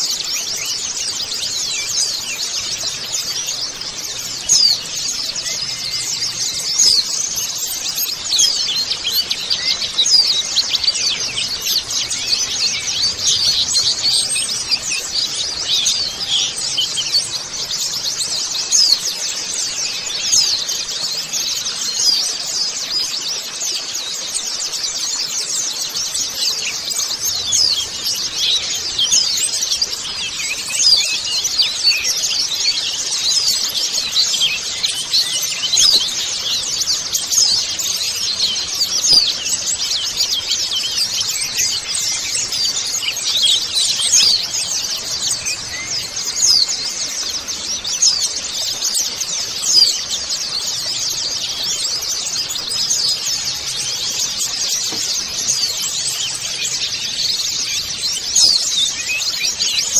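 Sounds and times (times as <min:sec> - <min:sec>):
flock of birds twittering: 0:00.0 - 0:59.9.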